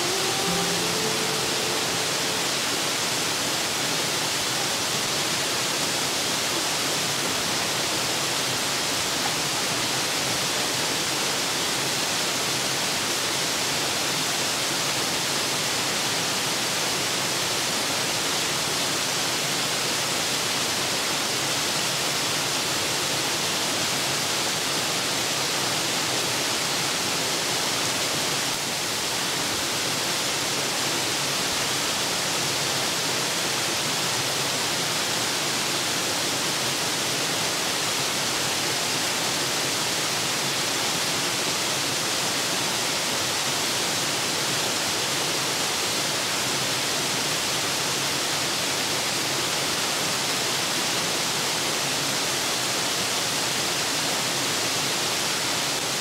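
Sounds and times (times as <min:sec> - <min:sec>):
waterfall pouring into pool: 0:00.0 - 0:56.0.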